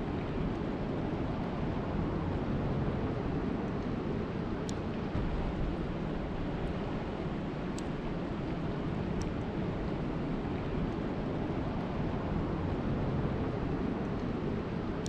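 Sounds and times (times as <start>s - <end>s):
rushing water and rain: 0.0s - 15.0s.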